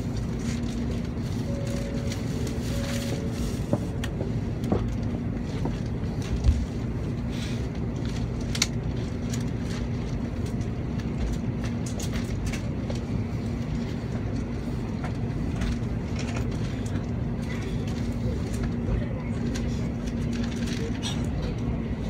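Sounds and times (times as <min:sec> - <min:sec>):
train cabin hum and rumble: 0:00.0 - 0:22.0.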